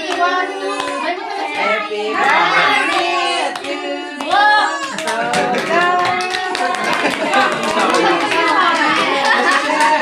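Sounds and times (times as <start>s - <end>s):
voices singing: 0.0s - 10.0s
hands clapping: 0.8s - 1.0s, 2.2s - 10.0s.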